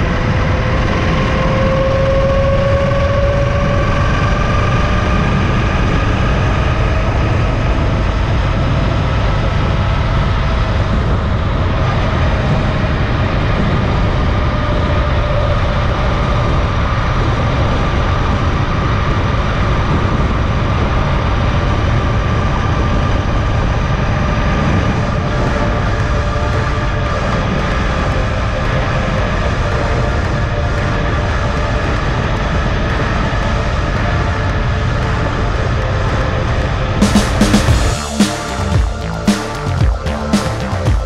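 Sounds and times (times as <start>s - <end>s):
wind rush on microphone: 0.0s - 38.0s
steady whine: 0.0s - 41.0s.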